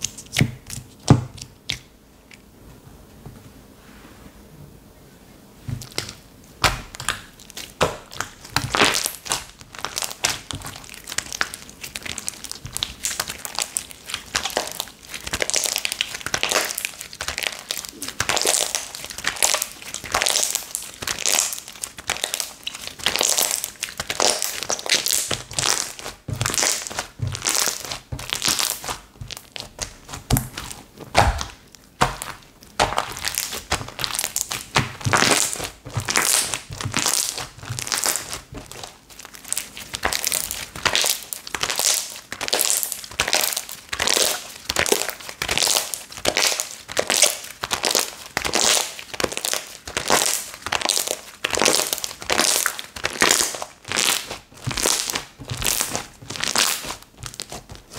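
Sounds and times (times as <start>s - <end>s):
slime crackling and popping: 5.8s - 57.9s.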